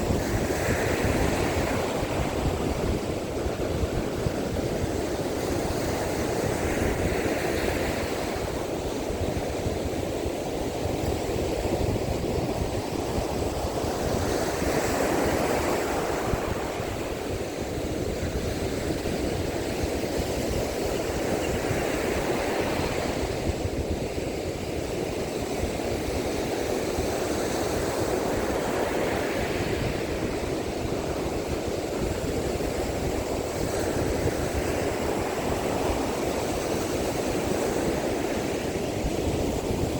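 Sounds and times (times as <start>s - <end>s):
sea waves breaking on a beach: 0.0s - 39.9s
wind buffeting microphone: 0.0s - 39.9s.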